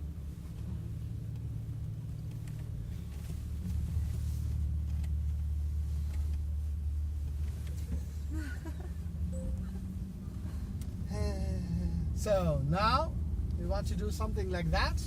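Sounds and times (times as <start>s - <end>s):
low engine drone in cabin: 0.0s - 15.0s.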